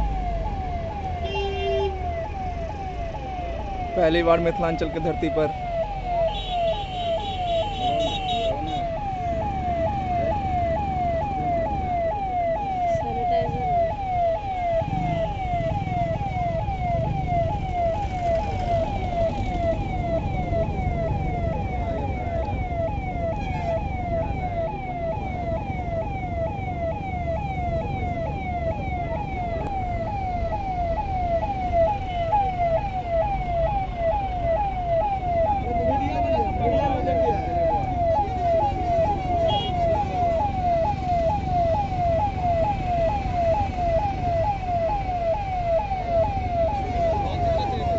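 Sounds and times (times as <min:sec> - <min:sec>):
siren wailing in falling sweeps: 0:00.0 - 0:47.9.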